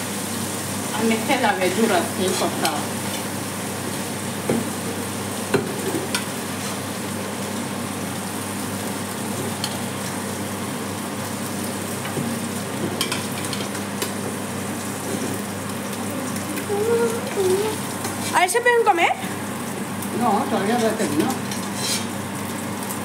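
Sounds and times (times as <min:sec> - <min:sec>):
meat sizzling in a pot: 0:00.0 - 0:23.0.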